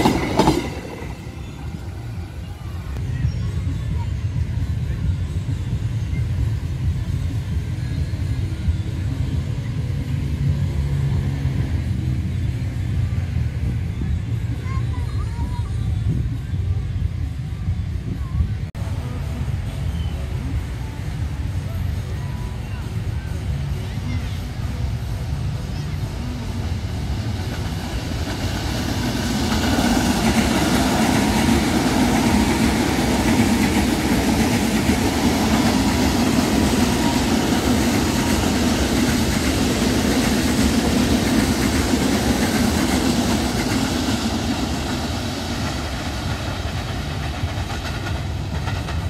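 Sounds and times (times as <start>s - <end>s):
train wheels rushing on track: 0.0s - 49.0s.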